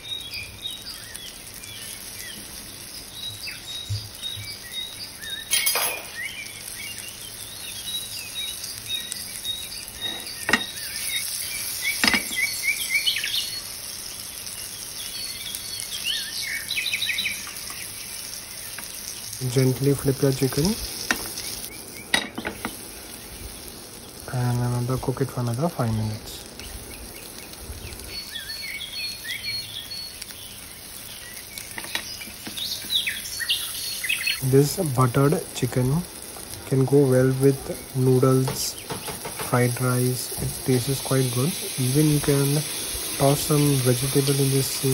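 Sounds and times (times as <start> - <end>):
birds chirping: 0.0 - 44.9
chicken frying in butter: 0.0 - 44.9
sharp frying pops: 0.0 - 44.9.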